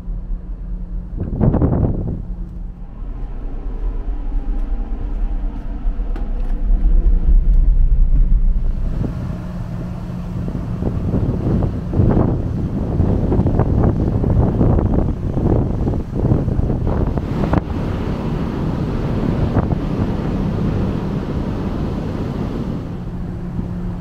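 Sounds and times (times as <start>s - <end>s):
ferry engines humming: 0.0s - 24.0s
wind rushing over microphone: 0.0s - 24.0s.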